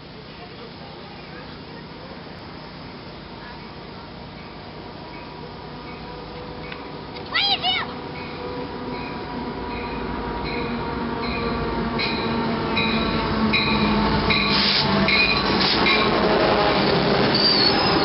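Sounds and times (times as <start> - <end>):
train running on rails: 0.0 - 18.0.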